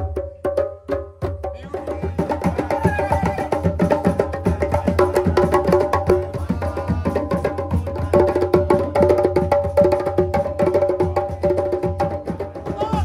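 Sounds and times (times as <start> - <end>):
hand drums in fast rhythm: 0.0 - 13.0.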